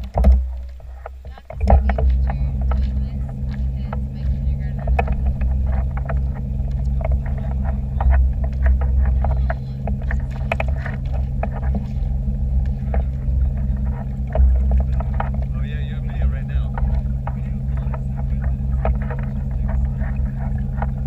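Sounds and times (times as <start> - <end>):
boat motor droning: 0.0 - 21.0
water splashing and slapping: 0.0 - 21.0.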